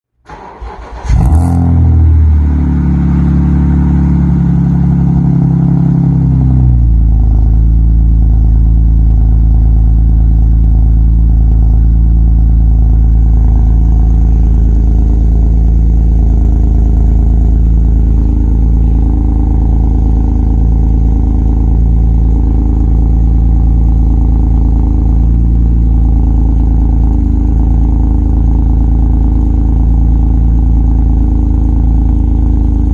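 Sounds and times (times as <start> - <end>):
car engine starting and idling: 0.2 - 32.9.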